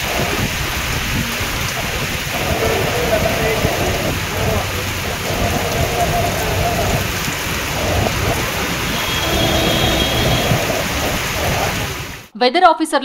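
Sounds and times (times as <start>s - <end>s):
heavy rain pouring on road: 0.0s - 12.3s
low rumble: 0.1s - 12.3s.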